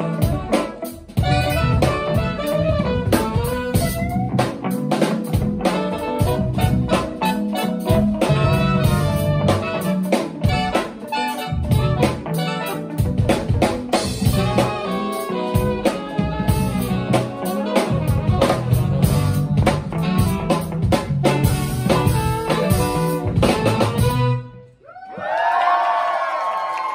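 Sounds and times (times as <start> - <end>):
funk band playing: 0.0 - 24.8
saxophones and trumpet: 0.0 - 24.8.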